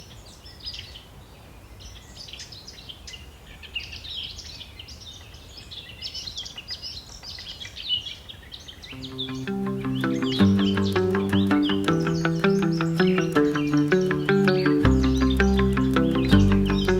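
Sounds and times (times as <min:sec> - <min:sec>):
small birds chirping: 0:01.9 - 0:16.9.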